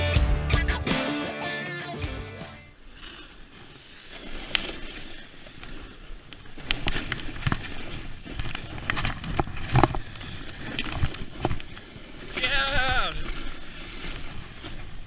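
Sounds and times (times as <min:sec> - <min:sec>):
rush of snow and wind: 0:02.7 - 0:15.0
snowboard scraping and knocking: 0:02.7 - 0:15.0.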